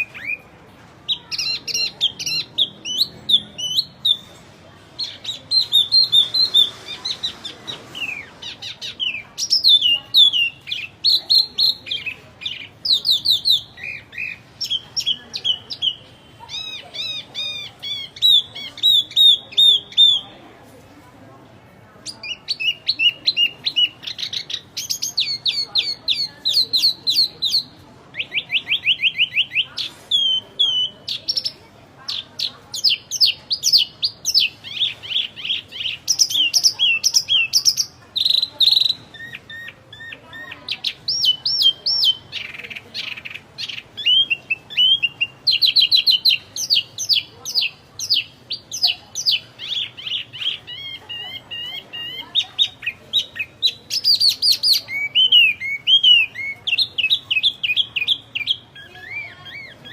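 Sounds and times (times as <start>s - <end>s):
songbird singing: 0.0s - 20.4s, 22.0s - 59.9s.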